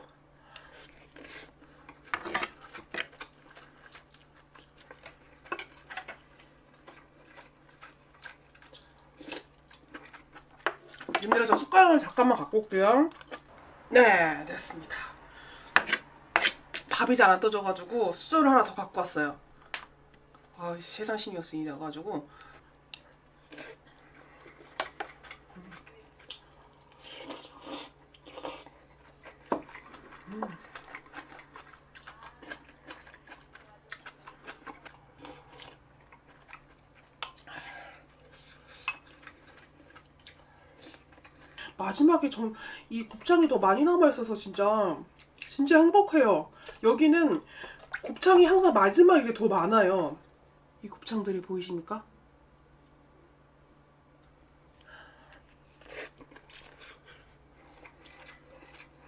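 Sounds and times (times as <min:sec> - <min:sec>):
soft eating sounds: 0:00.0 - 0:51.2, 0:54.1 - 0:59.0.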